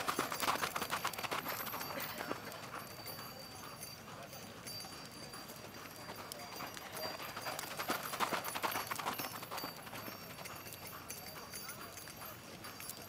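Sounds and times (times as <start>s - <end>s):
horse hoofbeats: 0.0s - 13.0s.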